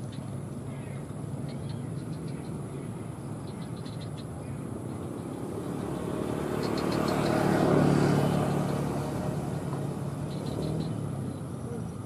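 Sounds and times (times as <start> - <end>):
vehicle engine passing by: 1.0 - 12.0.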